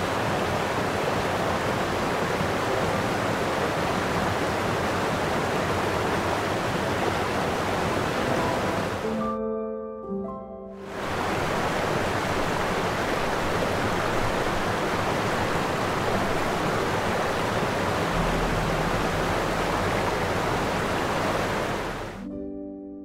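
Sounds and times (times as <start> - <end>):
water rushing: 0.0 - 9.2, 10.8 - 22.3.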